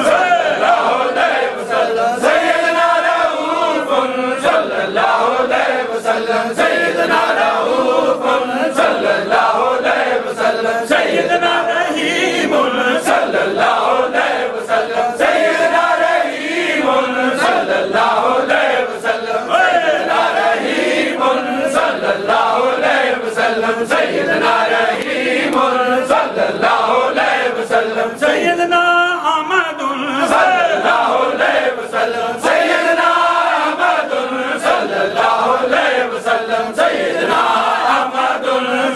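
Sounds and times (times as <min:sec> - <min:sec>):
men chanting in unison: 0:00.0 - 0:38.9.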